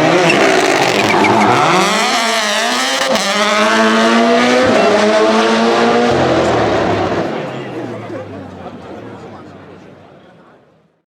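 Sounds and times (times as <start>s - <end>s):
rally car engine accelerating: 0.0s - 10.2s.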